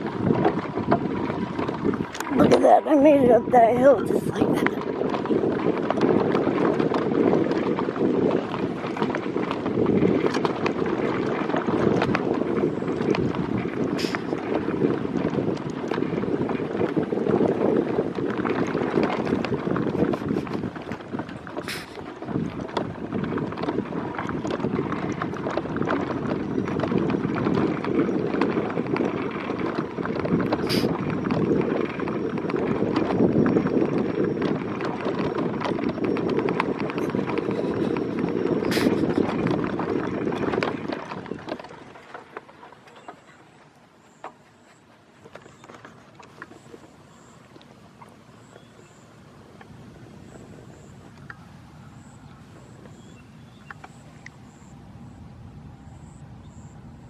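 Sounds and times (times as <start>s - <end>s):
small vehicle rolling over grass: 0.0s - 57.0s
wind noise on microphone: 0.0s - 57.0s.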